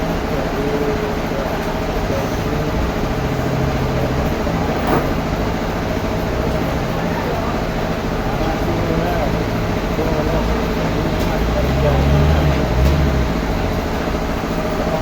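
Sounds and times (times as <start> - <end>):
sawmill machinery drone: 0.0 - 15.0.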